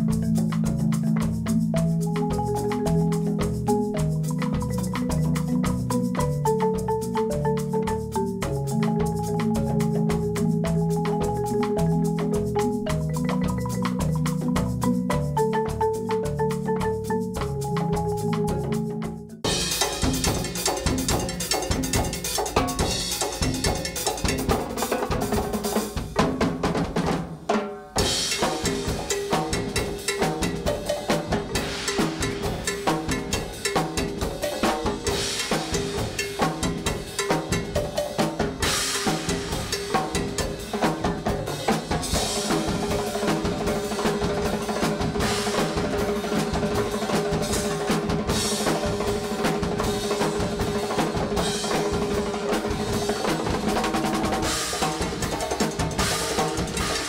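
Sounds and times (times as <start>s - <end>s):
cowbells: 0.0s - 26.1s, 28.0s - 57.0s
drum kit: 0.0s - 57.0s.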